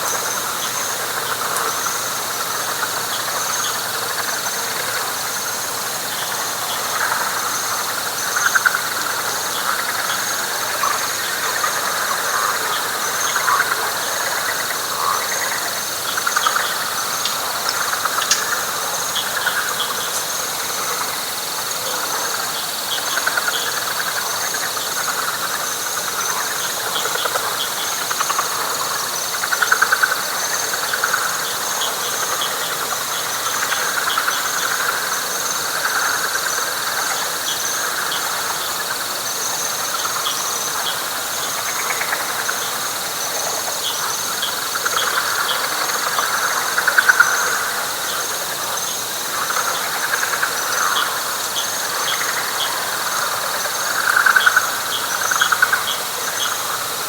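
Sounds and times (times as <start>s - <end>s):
frogs trilling: 0.0s - 57.0s
high insect drone: 0.0s - 57.0s.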